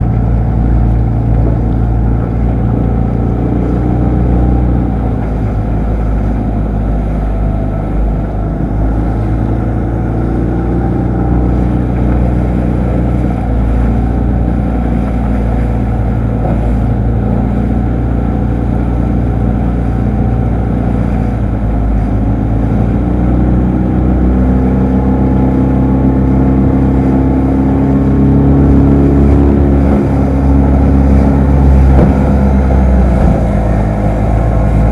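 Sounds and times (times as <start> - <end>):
outboard motor running: 0.0 - 34.9.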